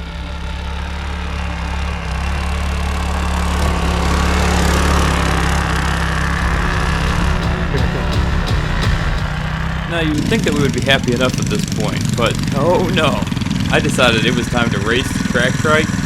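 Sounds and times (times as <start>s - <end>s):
mini bike engine running: 0.0s - 7.3s, 8.9s - 16.0s.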